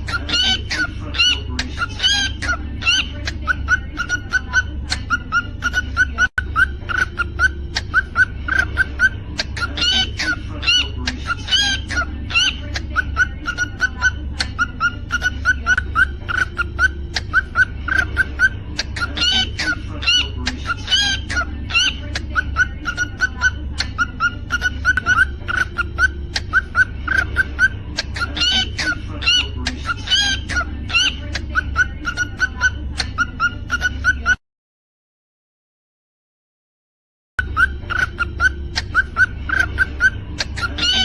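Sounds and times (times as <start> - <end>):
steady low hum: 0.0 - 33.7
cockatiel chirping: 0.0 - 34.4, 37.4 - 41.0.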